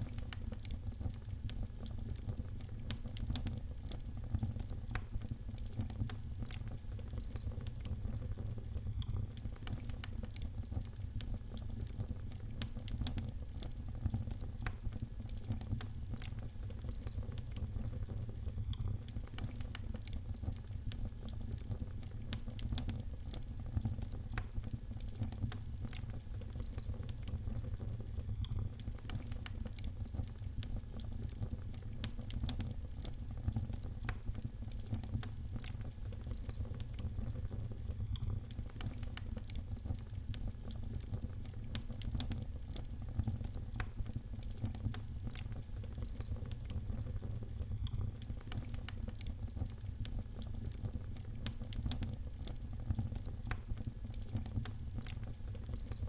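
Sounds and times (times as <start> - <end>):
fire crackles and pops: 0.0 - 56.0
wood fire burning: 0.0 - 56.0.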